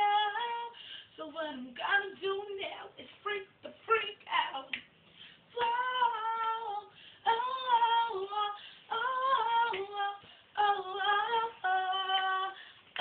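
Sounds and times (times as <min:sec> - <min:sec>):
girl singing unaccompanied: 0:00.0 - 0:04.9, 0:05.5 - 0:13.0.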